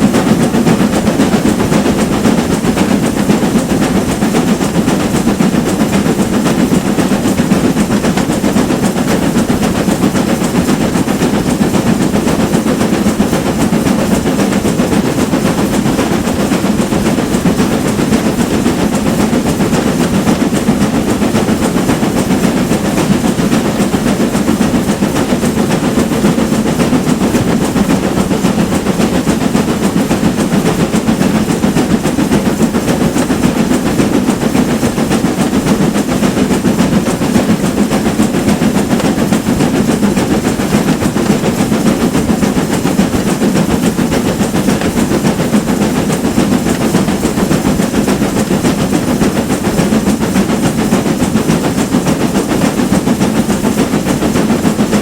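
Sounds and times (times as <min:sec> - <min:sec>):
steam train rumbling on track: 0:00.0 - 0:55.0.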